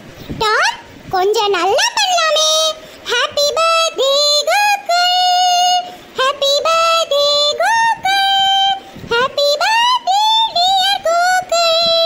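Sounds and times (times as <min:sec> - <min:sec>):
computer-generated singing voice: 0:01.4 - 0:12.0.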